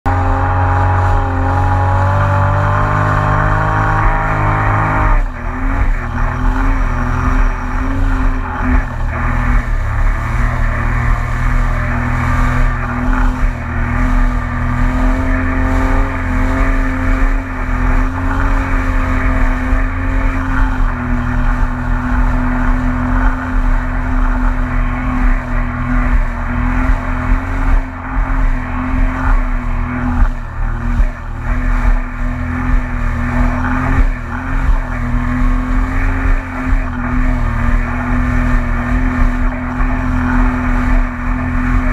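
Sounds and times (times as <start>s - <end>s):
jet ski engine revving: 0.0s - 41.9s.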